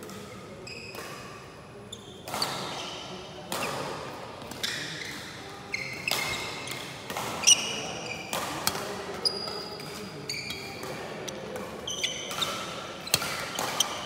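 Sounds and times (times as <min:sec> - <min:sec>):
rackets hitting shuttlecock: 0:00.0 - 0:01.5, 0:02.2 - 0:14.0
shoes squeaking on court floor: 0:00.1 - 0:03.9, 0:04.5 - 0:14.0.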